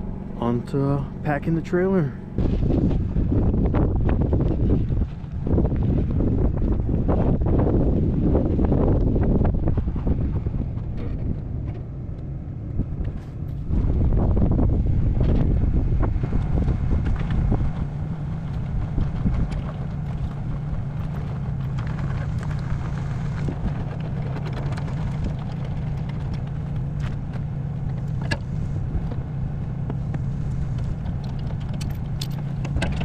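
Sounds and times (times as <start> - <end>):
engine humming: 0.0 - 33.0
wind buffeting microphone: 2.2 - 33.0.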